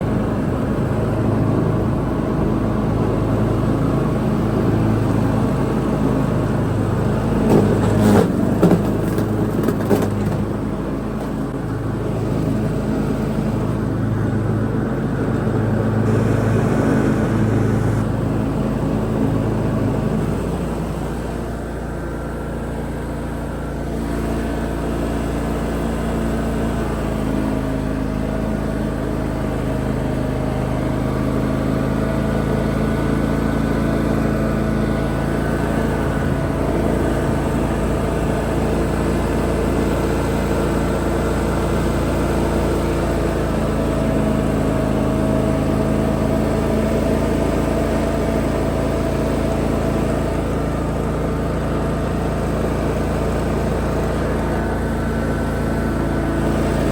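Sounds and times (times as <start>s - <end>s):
mower blade and deck noise: 0.0s - 56.9s
riding lawn mower engine drone: 0.0s - 56.9s.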